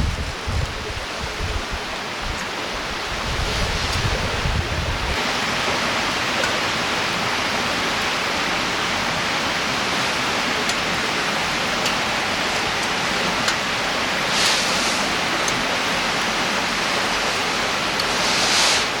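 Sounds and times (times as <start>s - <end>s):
river water rushing: 0.9s - 19.0s.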